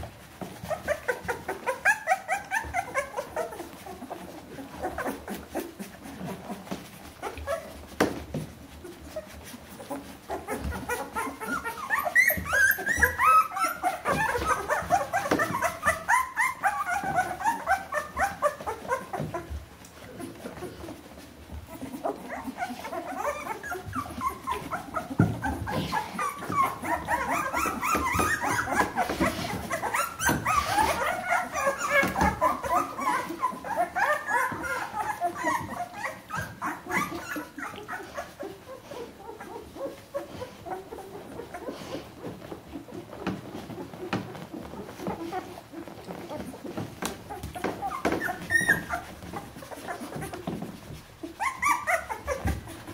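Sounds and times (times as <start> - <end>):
puppies squeaking and whimpering: 0.0 - 52.9.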